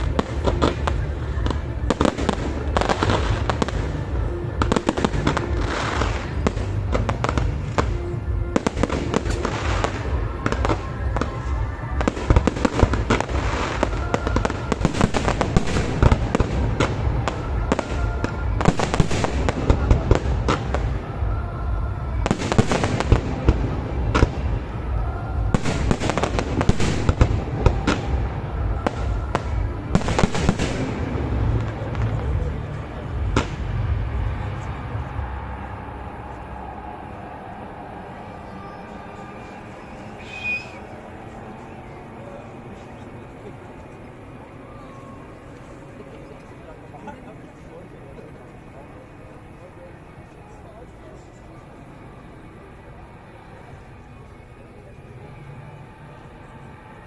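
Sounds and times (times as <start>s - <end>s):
music playing: 0.0s - 46.7s
fireworks bangs and crackling: 0.0s - 47.1s.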